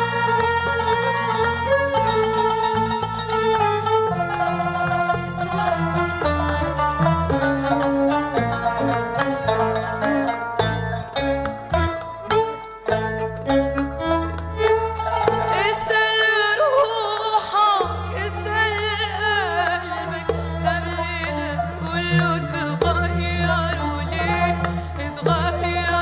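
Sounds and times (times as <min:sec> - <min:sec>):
ornamented bowed string melody: 0:00.0 - 0:26.0.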